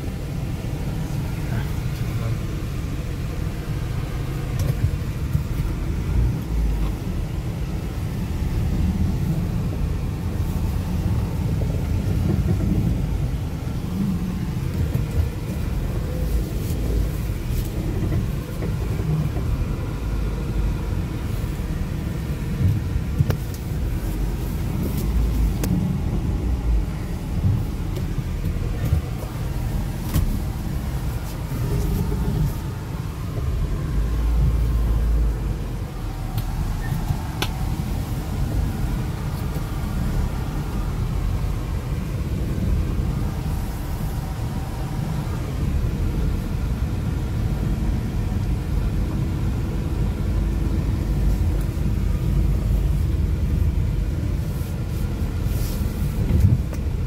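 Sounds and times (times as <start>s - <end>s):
car driving inside cabin: 0.0s - 57.0s.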